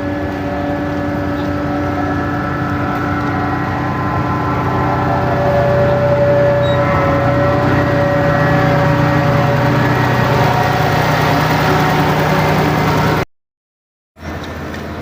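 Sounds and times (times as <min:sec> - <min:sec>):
large engine running steadily: 0:00.0 - 0:13.2, 0:14.2 - 0:15.0.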